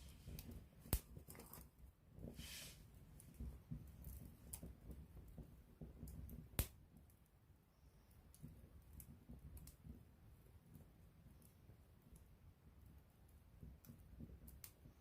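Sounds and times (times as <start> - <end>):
campfire wood crackling: 0.0 - 7.4, 8.1 - 15.0
low rumble of fire: 0.0 - 15.0.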